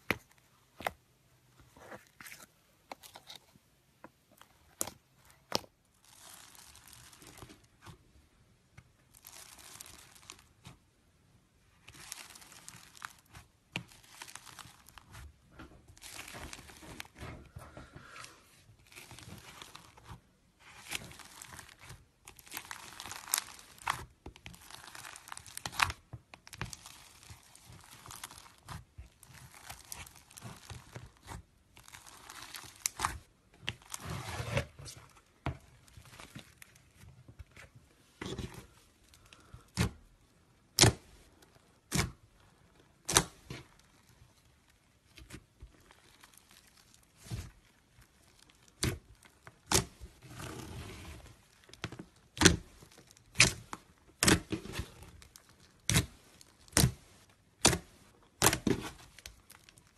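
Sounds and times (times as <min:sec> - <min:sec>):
slime with foam beads crackling: 0:04.7 - 0:08.0, 0:08.8 - 0:10.9, 0:11.6 - 0:17.2, 0:18.7 - 0:37.6, 0:38.3 - 0:59.9.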